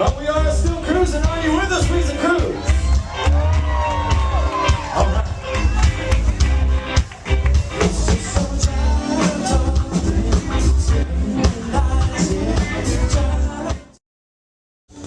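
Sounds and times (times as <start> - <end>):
bass guitar: 0.0 - 14.0
drum kit beat: 0.0 - 14.0
live rock band playing: 0.0 - 14.0.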